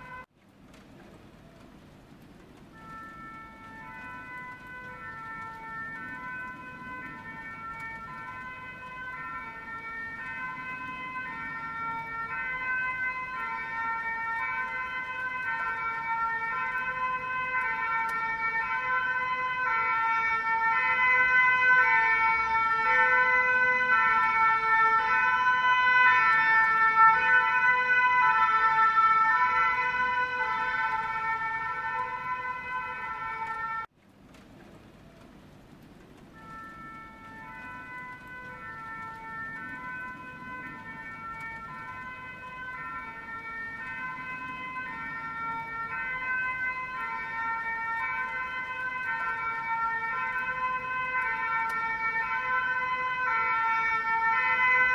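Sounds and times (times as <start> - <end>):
two-tone siren: 0.0 - 0.3, 2.5 - 33.9, 36.2 - 54.9.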